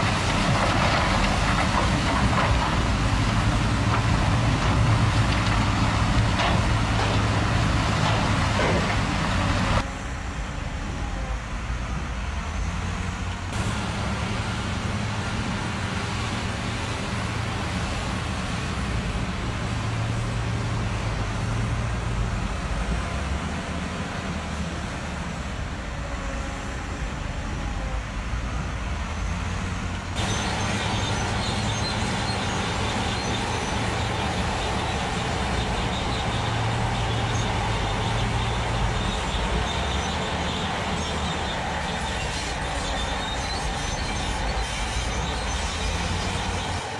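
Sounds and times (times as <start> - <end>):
truck engine humming: 0.0 - 46.9.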